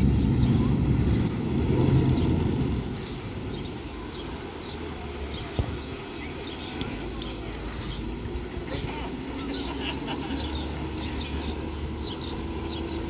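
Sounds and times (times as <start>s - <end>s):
outboard motor rumbling: 0.0s - 13.0s.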